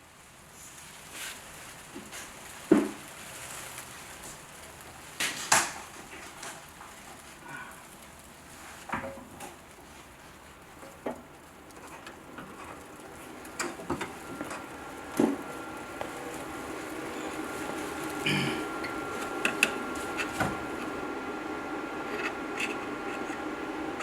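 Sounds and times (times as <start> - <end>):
low steady background hum: 4.4 - 24.0.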